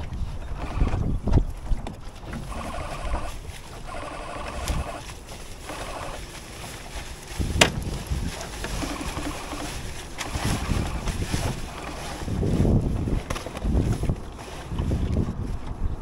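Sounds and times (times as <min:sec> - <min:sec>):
sails and lines rustling: 0:00.0 - 0:16.0
wind buffeting microphone: 0:00.0 - 0:16.0.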